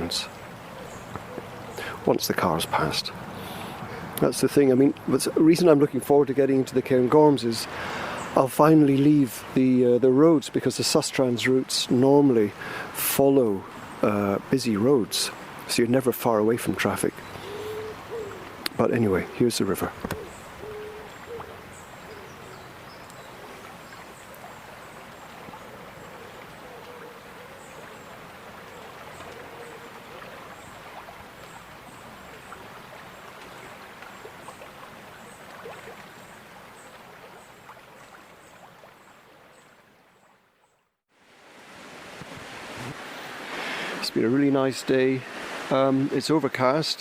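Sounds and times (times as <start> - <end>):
river water rushing: 0.0 - 40.1, 41.2 - 46.6.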